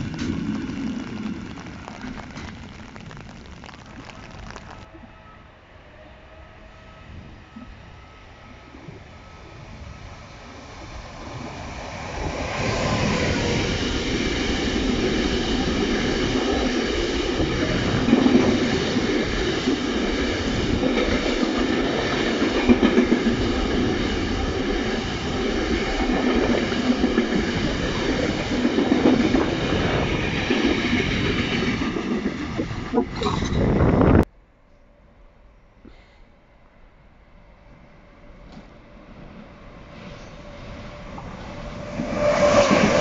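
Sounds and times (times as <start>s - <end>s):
freight train passing: 0.0s - 2.7s, 4.9s - 34.2s, 36.4s - 43.0s.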